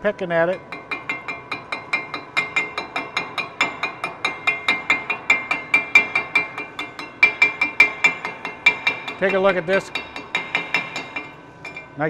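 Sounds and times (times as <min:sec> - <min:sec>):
chipping hammer striking metal: 0:00.5 - 0:12.0.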